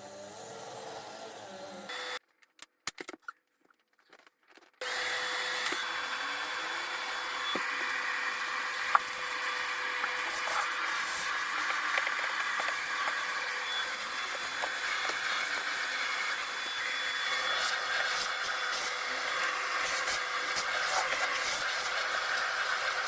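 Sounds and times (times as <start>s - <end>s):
vacuum cleaner running: 0.0s - 2.2s, 4.8s - 23.0s.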